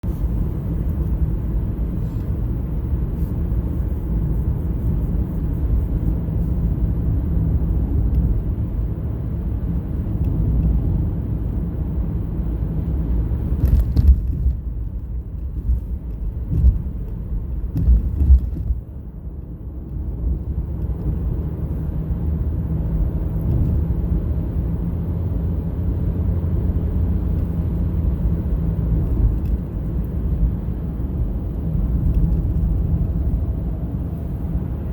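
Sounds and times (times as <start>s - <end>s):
truck engine and road rumble: 0.0s - 34.9s.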